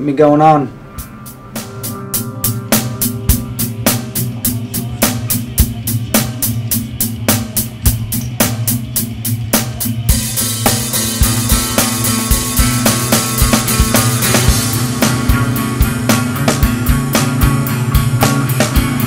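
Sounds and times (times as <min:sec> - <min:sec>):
bass line: 0:00.0 - 0:19.0
drum kit beat: 0:00.6 - 0:19.0
cymbals: 0:00.7 - 0:19.0.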